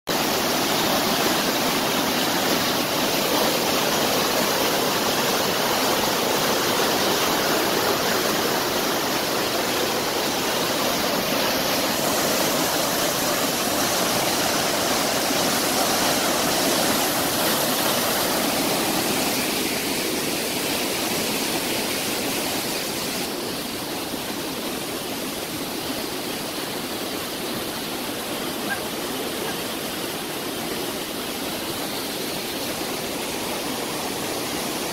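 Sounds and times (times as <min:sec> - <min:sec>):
creek water rushing through rapids: 0:00.1 - 0:34.9.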